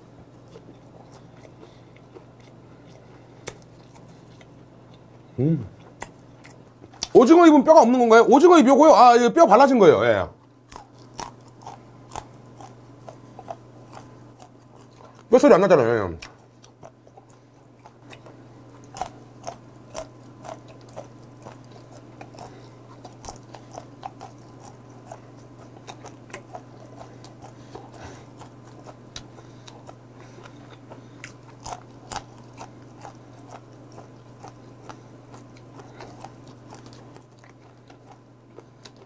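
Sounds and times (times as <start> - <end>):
steady low hum: 0.0 - 39.0
crisp chewing crunches: 0.3 - 7.2, 10.4 - 15.5, 16.2 - 39.0.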